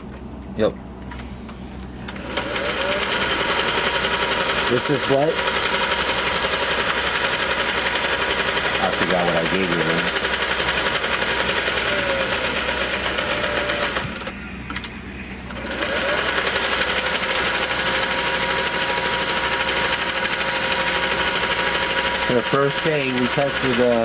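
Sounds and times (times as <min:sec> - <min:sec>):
sewing machine clattering: 0:02.1 - 0:14.3, 0:15.6 - 0:24.0.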